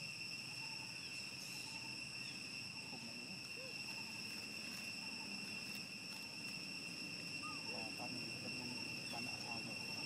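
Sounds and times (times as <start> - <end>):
faint low wavering sounds: 0.0 - 10.0
high-pitched insect chorus: 0.0 - 10.0.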